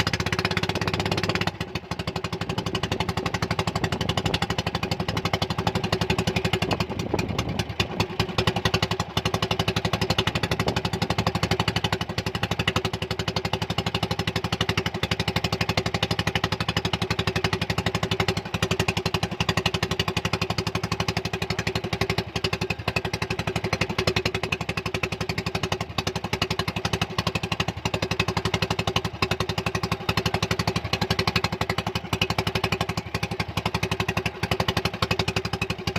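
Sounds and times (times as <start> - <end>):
motorboat engine running: 0.0 - 35.9.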